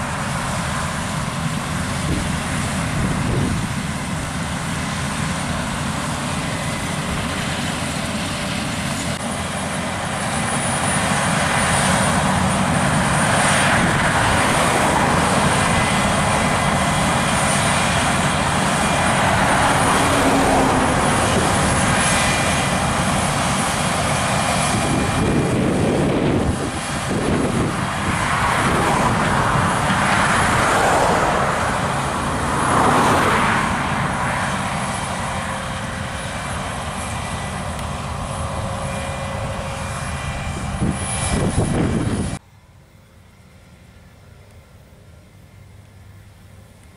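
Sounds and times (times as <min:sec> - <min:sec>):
combine harvester engine drone: 0:00.0 - 0:46.9
high whine: 0:00.0 - 0:46.9.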